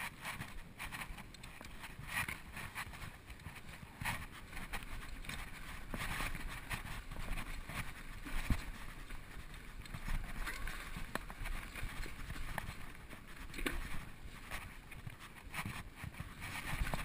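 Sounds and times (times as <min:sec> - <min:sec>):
bike clicks and clatters: 0:00.0 - 0:17.0
bike tyres rolling over dirt: 0:00.0 - 0:17.0.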